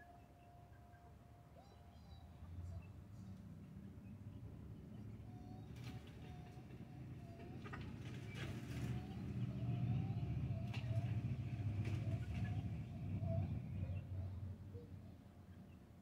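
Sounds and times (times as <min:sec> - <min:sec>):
soft bird calls: 0:00.0 - 0:16.0
vehicle engine rumble: 0:02.4 - 0:15.6.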